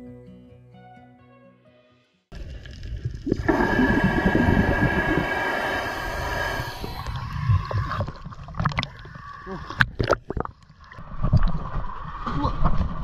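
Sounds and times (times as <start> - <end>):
bubbling and sloshing water: 2.3 - 13.0.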